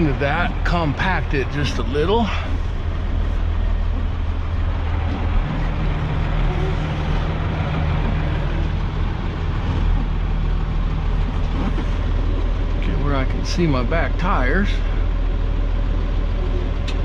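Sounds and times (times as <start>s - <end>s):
deep steady hum: 0.0s - 17.0s
diesel truck engine running: 0.0s - 17.0s.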